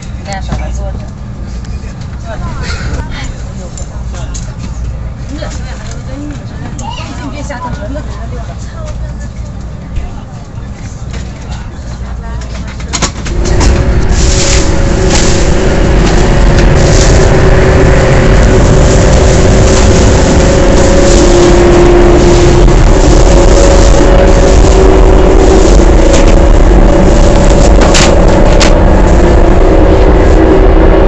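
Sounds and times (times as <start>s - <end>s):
train rumble and rush: 0.0s - 31.0s.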